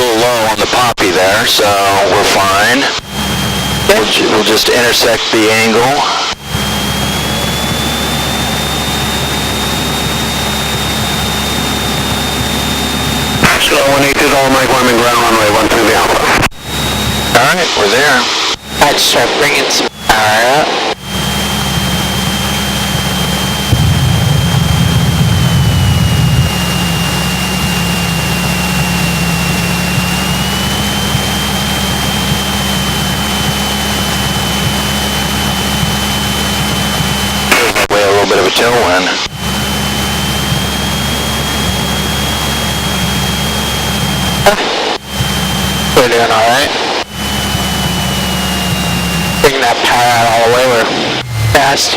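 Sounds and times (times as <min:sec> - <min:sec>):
light aircraft engine and propeller: 0:00.0 - 0:51.9
thin high whine: 0:01.8 - 0:51.9.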